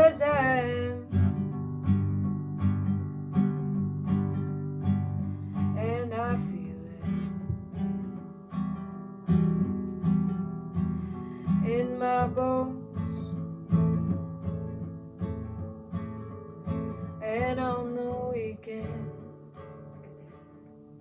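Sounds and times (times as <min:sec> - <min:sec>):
acoustic guitar plucking: 0:00.0 - 0:21.0.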